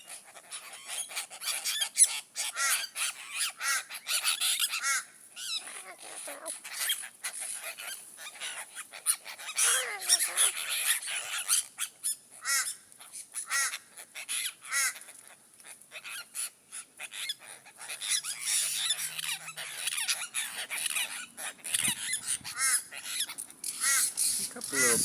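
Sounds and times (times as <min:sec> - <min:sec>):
flock of birds harsh calls: 0:00.0 - 0:25.0.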